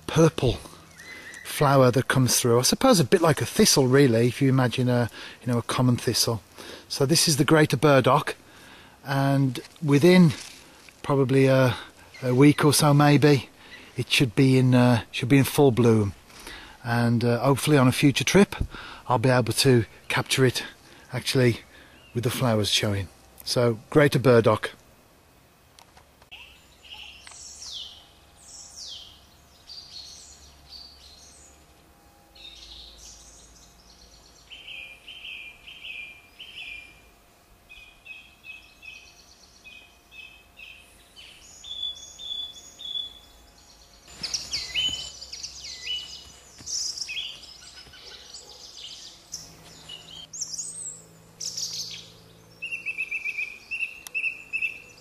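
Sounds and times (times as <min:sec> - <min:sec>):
birds singing and calling: 0:00.0 - 0:23.7, 0:26.3 - 0:55.0.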